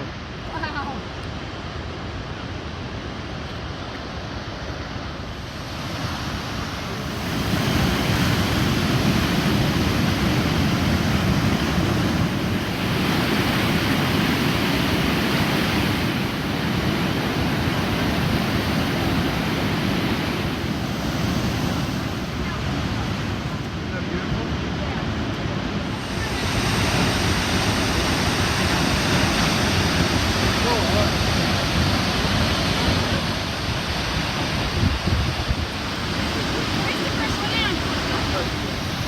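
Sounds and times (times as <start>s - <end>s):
rushing water: 0.0s - 39.0s.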